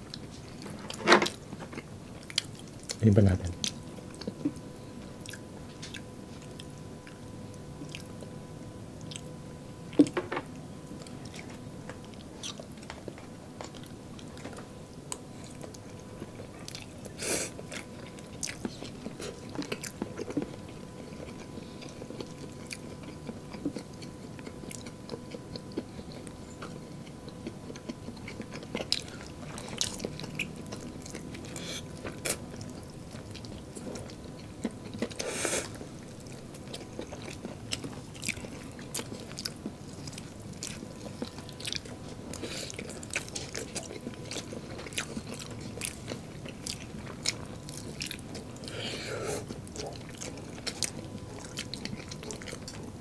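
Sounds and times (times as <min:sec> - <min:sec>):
crunching and chewing food: 0:00.0 - 0:53.0.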